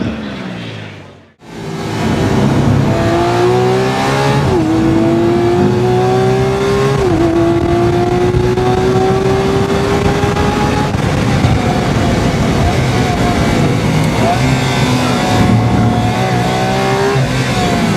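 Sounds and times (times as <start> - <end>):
car engine accelerating hard: 0.0 - 17.9
sharp gear upshifts: 0.0 - 17.9.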